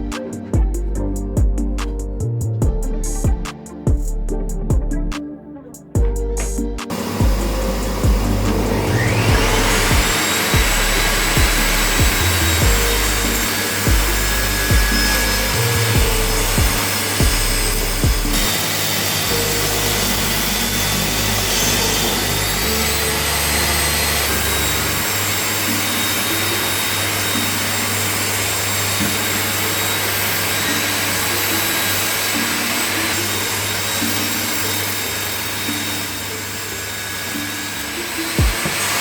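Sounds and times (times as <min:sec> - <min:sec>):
background music: 0:00.0 - 0:39.0
power tool whirring: 0:06.4 - 0:39.0.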